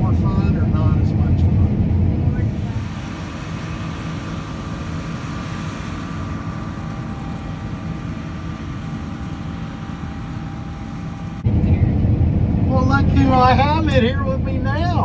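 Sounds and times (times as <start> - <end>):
combine harvester low rumble: 0.0 - 15.0
faint steady whine: 0.0 - 15.0.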